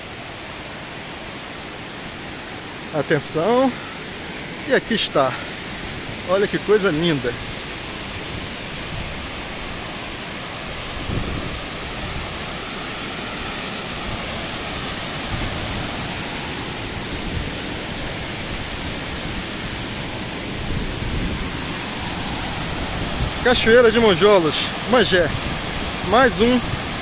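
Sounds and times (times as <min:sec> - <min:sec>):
waterfall rushing into pool: 0:00.0 - 0:27.0.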